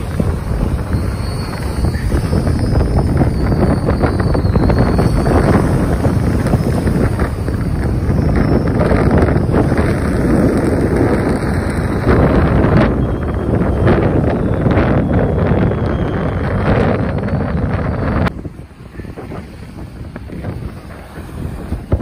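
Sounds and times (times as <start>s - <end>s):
sea washing at shoreline: 0.0s - 22.0s
wind buffeting microphone: 0.0s - 22.0s.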